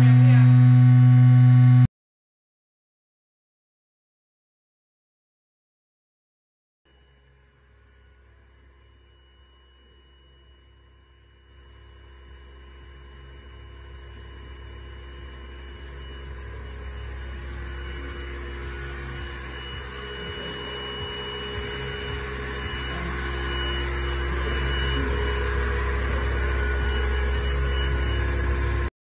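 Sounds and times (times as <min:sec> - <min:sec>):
machine hum with low drone: 0:00.0 - 0:01.9, 0:06.9 - 0:28.9.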